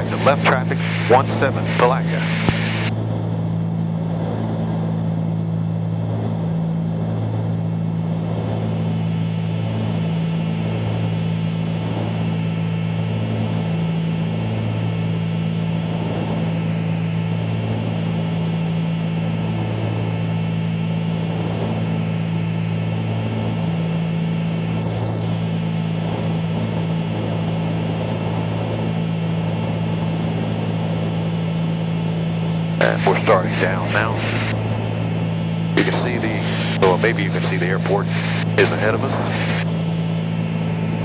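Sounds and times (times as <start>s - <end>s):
twin propeller aircraft engines droning: 0.0s - 41.0s.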